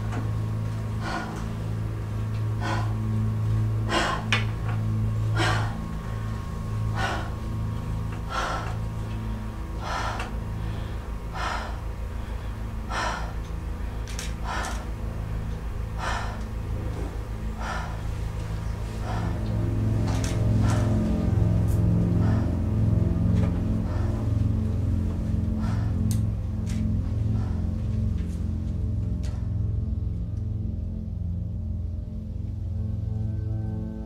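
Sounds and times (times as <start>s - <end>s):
woman breathing hard: 0.0s - 30.2s
low hum: 0.0s - 34.0s.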